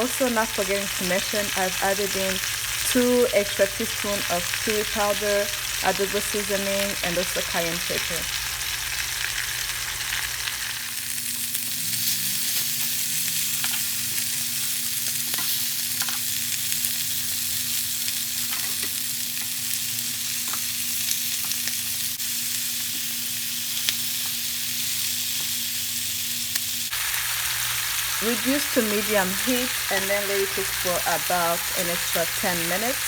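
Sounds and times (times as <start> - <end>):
chicken sizzling in a pan: 0.0 - 33.0.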